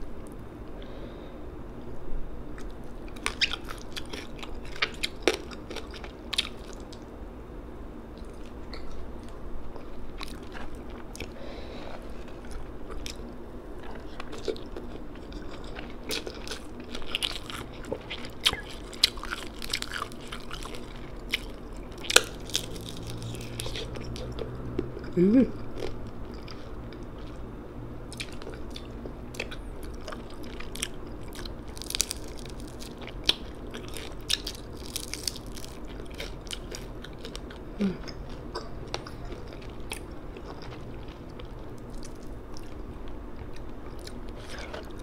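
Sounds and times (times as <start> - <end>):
person chewing food: 2.6 - 7.0, 8.2 - 27.4, 28.1 - 45.0.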